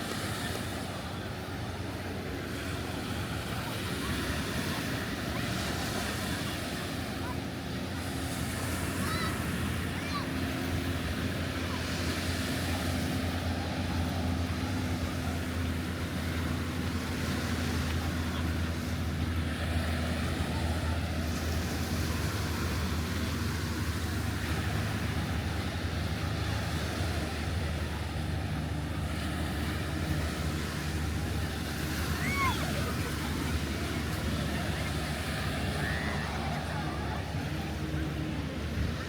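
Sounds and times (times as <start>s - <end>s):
low steady drone: 0.0s - 39.0s
surf: 0.0s - 39.0s.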